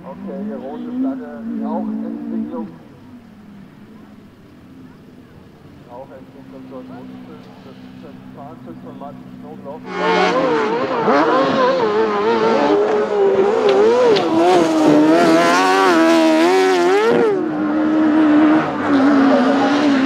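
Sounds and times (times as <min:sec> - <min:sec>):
race engines revving: 0:00.0 - 0:20.0.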